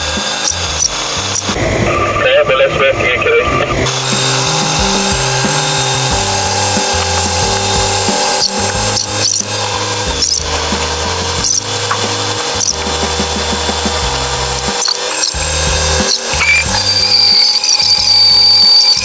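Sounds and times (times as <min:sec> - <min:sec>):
crane engine and hydraulics whine: 0:00.0 - 0:19.0.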